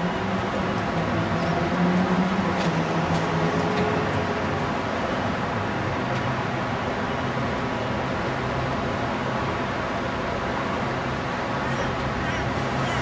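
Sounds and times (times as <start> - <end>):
constant noise wash: 0.0 - 13.0.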